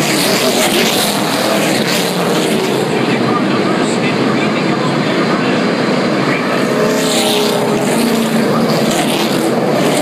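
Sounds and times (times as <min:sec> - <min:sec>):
race car engines passing: 0:00.0 - 0:10.0.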